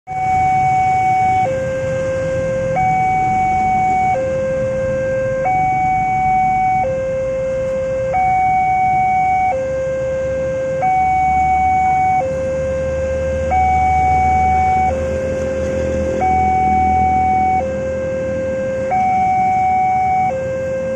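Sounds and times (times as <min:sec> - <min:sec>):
level crossing two-tone alarm: 0:00.1 - 0:20.9
road traffic engine rumble: 0:00.1 - 0:20.9.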